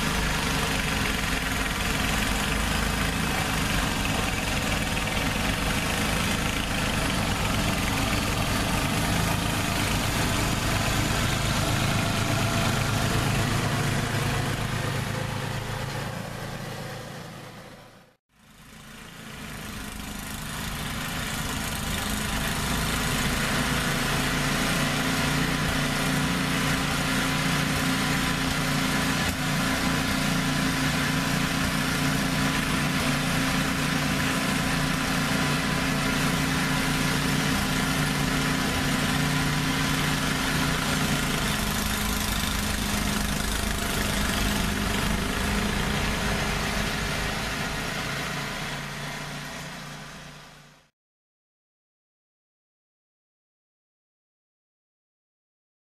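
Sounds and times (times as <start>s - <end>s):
snowblower engine running: 0.0s - 50.9s.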